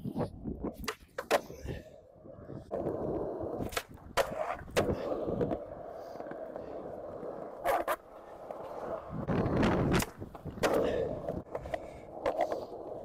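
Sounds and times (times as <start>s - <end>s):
skateboard wheels rolling: 0.0s - 13.0s
skateboard clacks: 0.1s - 1.8s, 2.6s - 13.0s.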